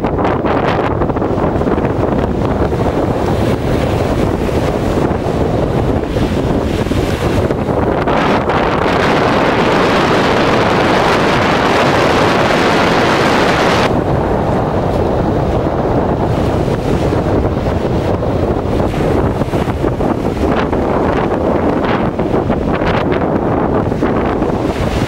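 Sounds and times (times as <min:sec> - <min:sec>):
surf waves breaking: 0:00.0 - 0:25.0
wind buffeting microphone: 0:00.0 - 0:25.0.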